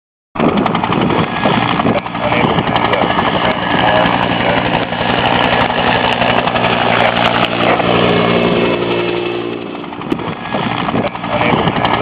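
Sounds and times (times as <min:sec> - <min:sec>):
helicopter rotor and engine: 0:00.4 - 0:12.0.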